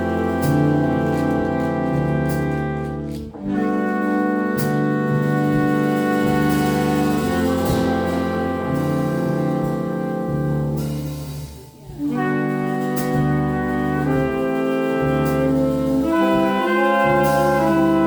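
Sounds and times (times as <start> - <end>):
jazz ensemble horn chords: 0.0 - 18.0.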